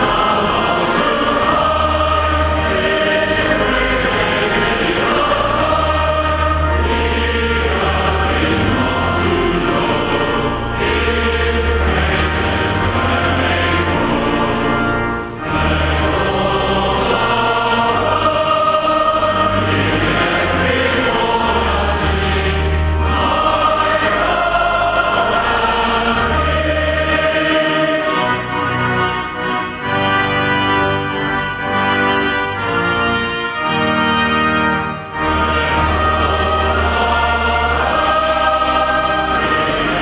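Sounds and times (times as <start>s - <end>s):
choir singing: 0.0s - 40.0s.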